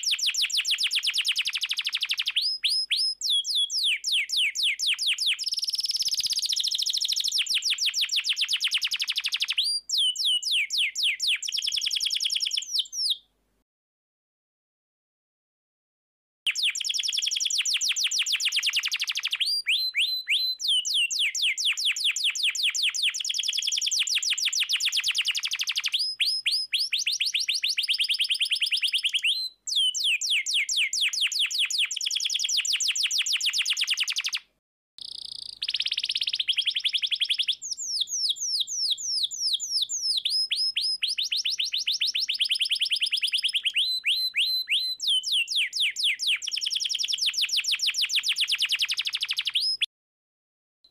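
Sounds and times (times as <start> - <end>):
canary singing trills: 0.0 - 13.2, 16.5 - 49.9.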